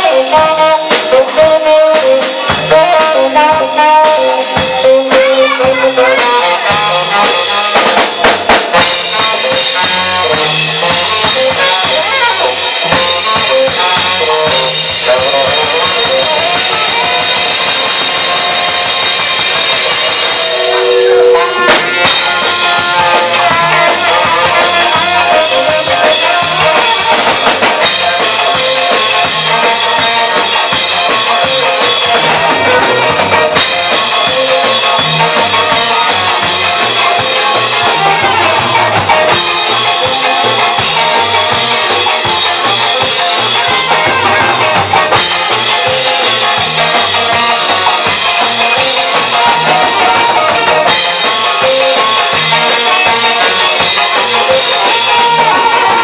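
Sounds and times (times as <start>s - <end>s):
held horn notes: 0.0s - 56.0s
live ska band playing: 0.0s - 56.0s
sharp drum hit: 0.4s - 56.0s.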